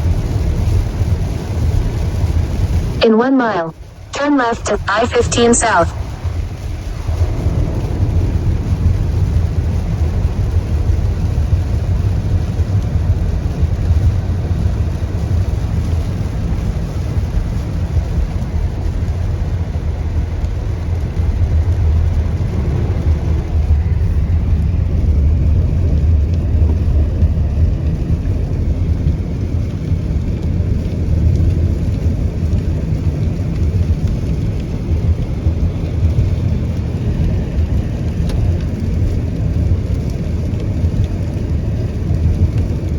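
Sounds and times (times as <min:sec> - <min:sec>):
tyre noise on wet road: 0:00.0 - 0:03.0, 0:06.0 - 0:42.9
rain hiss and spray: 0:00.0 - 0:42.9.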